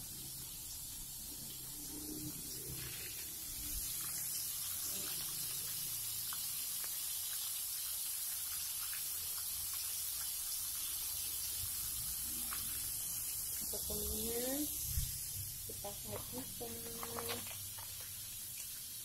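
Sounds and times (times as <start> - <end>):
shrimp deep-frying in oil: 0.0 - 19.0.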